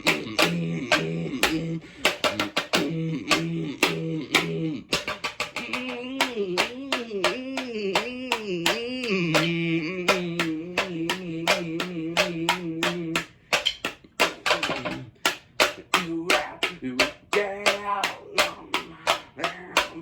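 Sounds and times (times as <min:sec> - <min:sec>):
low voice humming: 0:00.0 - 0:13.2, 0:16.0 - 0:20.0.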